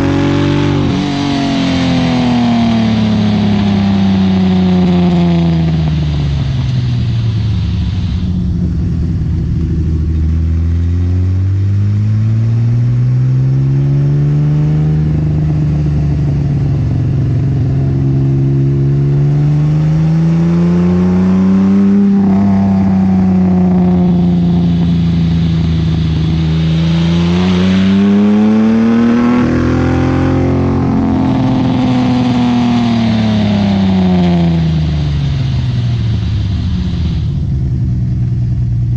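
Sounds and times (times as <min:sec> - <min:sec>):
straight-six engine running: 0:00.0 - 0:14.2, 0:15.0 - 0:38.9.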